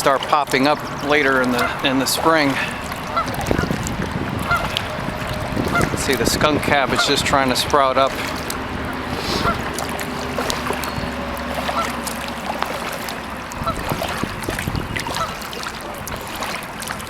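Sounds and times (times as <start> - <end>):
highway traffic hum: 0.0 - 17.0
paddle splashes and drips: 0.0 - 17.0
waterfowl calls: 0.0 - 17.0.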